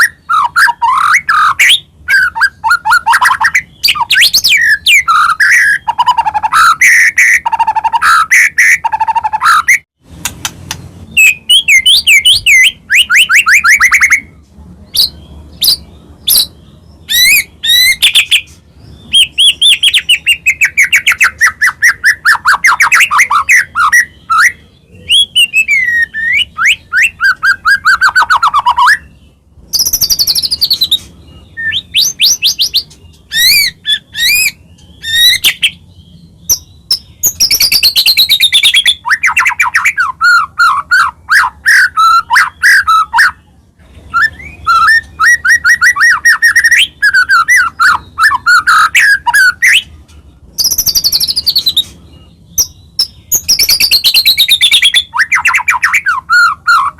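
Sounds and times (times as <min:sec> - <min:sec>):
bird singing loud varied song: 0:00.0 - 0:09.8, 0:10.6 - 0:56.9.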